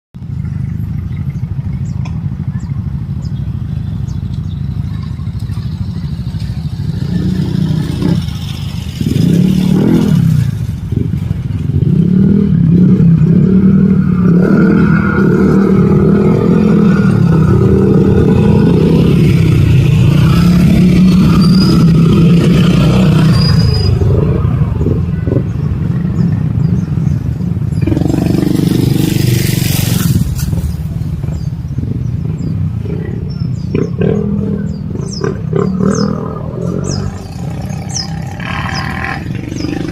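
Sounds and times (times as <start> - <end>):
motor vehicle engine running: 0.2 - 39.9.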